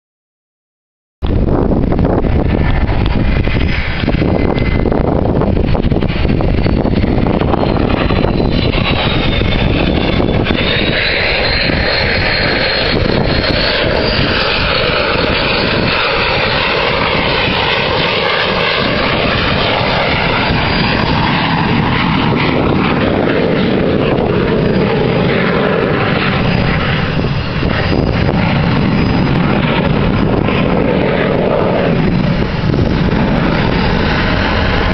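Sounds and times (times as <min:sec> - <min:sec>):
high jet whine: 0:01.2 - 0:34.9
jet engine roar: 0:01.2 - 0:34.9.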